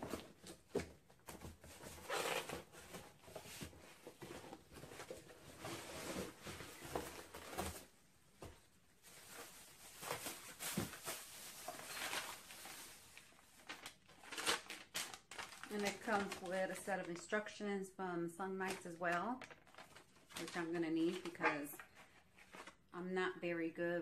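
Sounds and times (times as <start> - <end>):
packaging rustling and crinkling: 0.0 - 17.3, 18.7 - 22.9.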